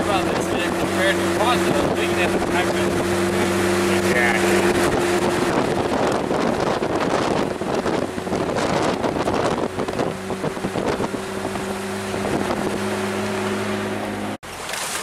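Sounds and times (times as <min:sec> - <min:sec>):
wind buffeting microphone: 0:00.0 - 0:14.2
gravel road rumble: 0:00.0 - 0:15.0.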